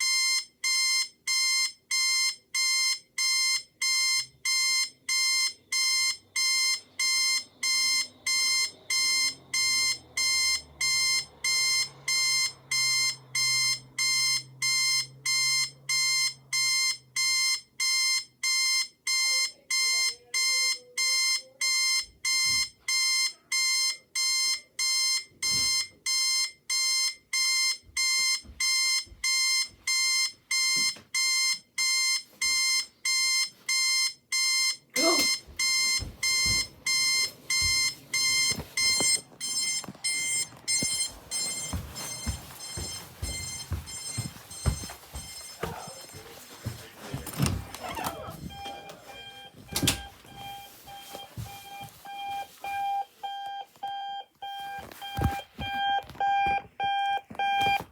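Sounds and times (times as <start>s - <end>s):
electronic alarm beeping: 0.0s - 57.9s.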